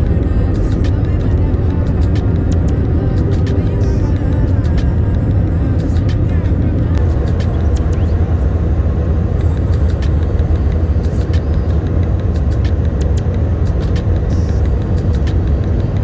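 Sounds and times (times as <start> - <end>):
vehicle rumble from inside: 0.0 - 16.0.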